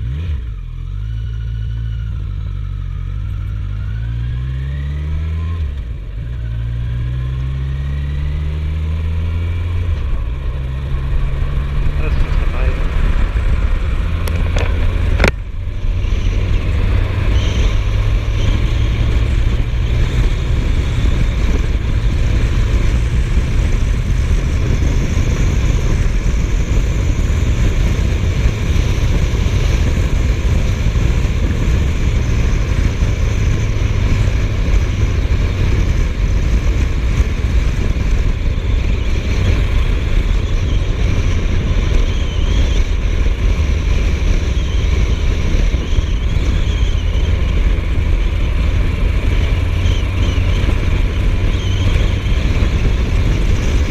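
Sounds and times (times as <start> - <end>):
motorcycle engine cruising: 0.0 - 53.9
wind rush on microphone: 1.9 - 53.9.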